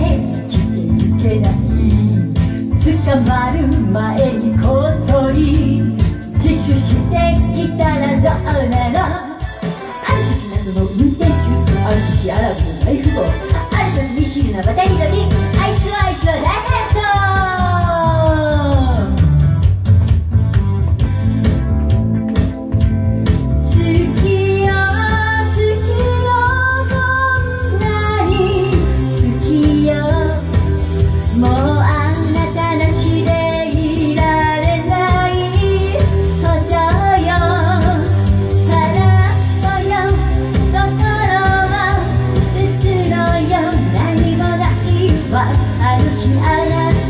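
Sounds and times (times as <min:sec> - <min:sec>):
woman singing pop song: 0:00.0 - 0:19.4, 0:23.5 - 0:47.0
backing track with steady beat: 0:00.0 - 0:47.0.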